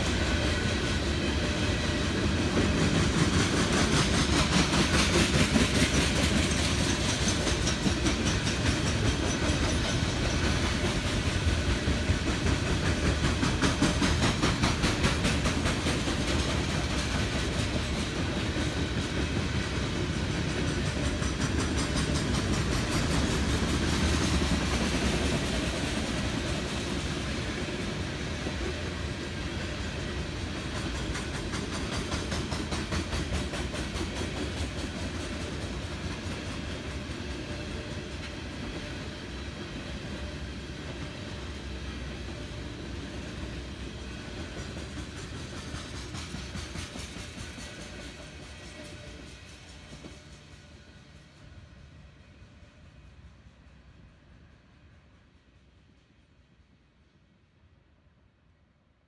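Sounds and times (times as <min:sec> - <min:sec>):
freight cars rumbling on rails: 0:00.0 - 0:51.4
wheels clicking over rail joints: 0:00.2 - 0:29.0, 0:30.0 - 0:50.4.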